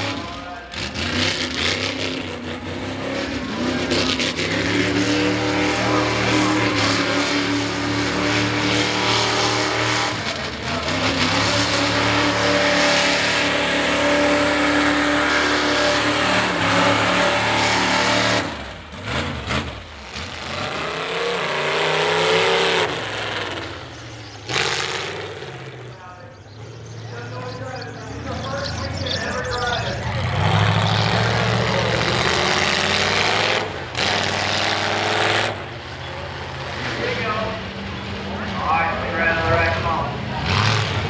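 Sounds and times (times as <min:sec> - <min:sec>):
engine revving: 0:00.0 - 0:41.0
truck engines at full throttle: 0:00.0 - 0:41.0.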